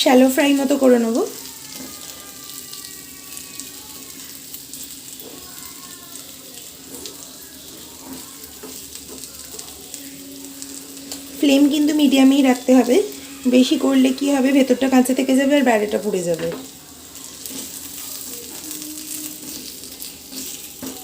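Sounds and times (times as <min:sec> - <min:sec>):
chicken sizzling in a frying pan: 0:00.0 - 0:21.0.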